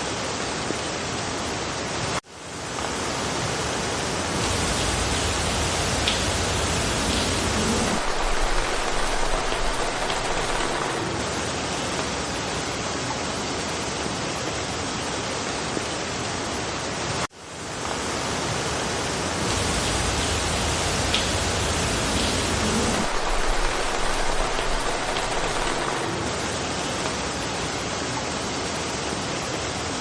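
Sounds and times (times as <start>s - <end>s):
rain falling in forest: 0.0s - 30.0s.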